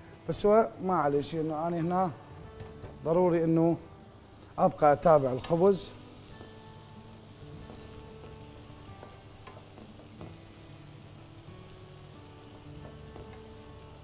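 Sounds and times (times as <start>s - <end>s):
chicken sizzling in a frying pan: 2.7s - 14.0s.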